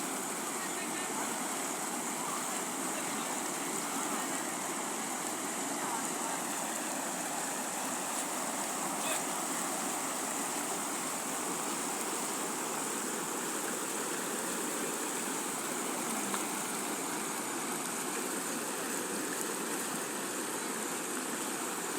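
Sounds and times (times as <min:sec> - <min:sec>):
running water rushing: 0:00.0 - 0:21.9.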